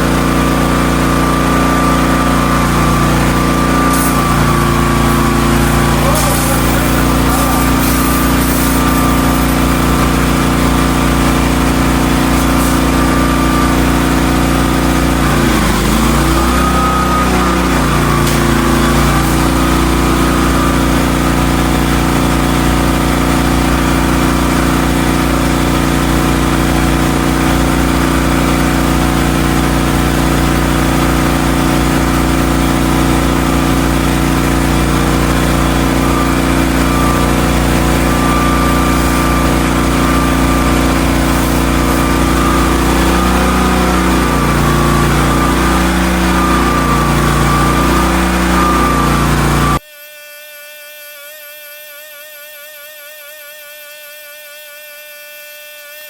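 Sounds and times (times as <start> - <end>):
pressure washer engine running: 0.0 - 49.9.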